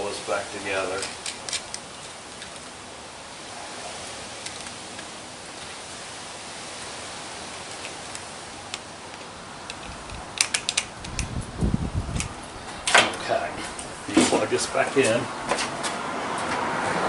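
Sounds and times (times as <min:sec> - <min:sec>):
steady hiss: 0:00.0 - 0:15.6.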